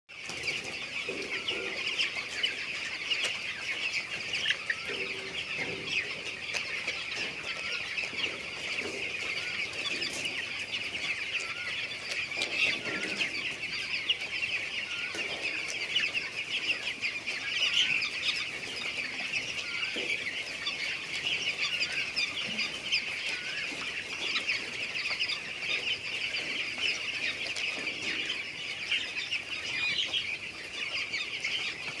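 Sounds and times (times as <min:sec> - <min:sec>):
chickens clucking: 0:00.1 - 0:32.0
chickens peeping: 0:00.1 - 0:32.0.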